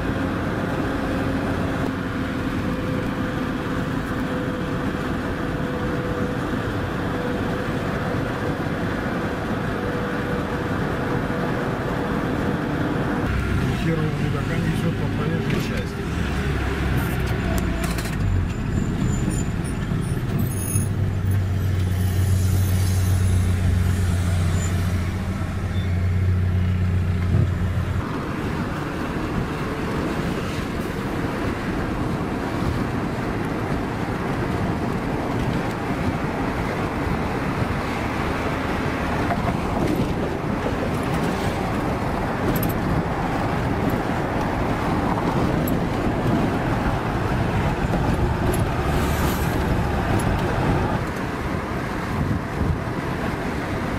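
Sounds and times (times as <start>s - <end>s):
road and tyre noise: 0.0s - 53.9s.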